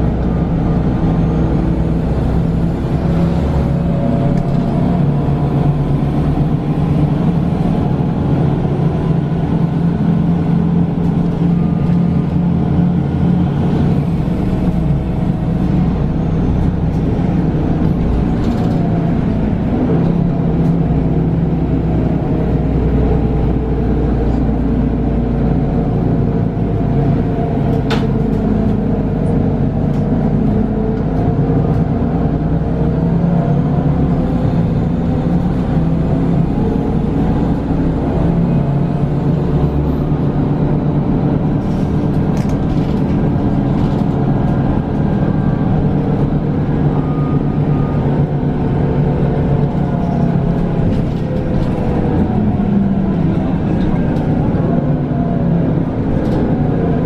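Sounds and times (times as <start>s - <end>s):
bus engine droning: 0.0s - 57.0s.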